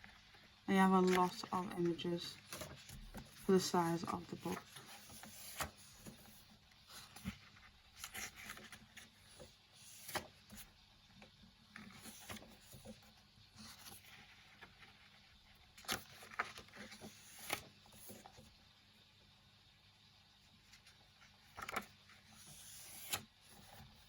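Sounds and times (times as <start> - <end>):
paper pages turning: 0.1 - 10.7, 11.7 - 18.5, 20.7 - 23.8.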